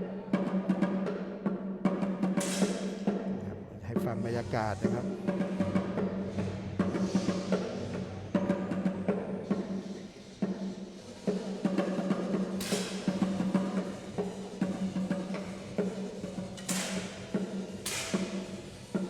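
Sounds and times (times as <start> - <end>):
drums beating a rhythm: 0.0 - 19.0.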